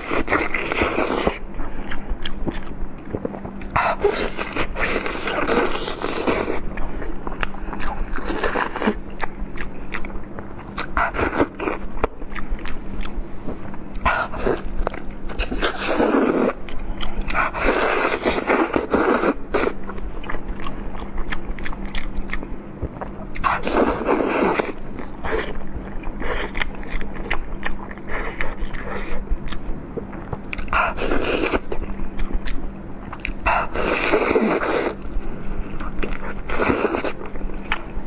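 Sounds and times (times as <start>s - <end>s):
chewing meat: 0.0s - 38.0s.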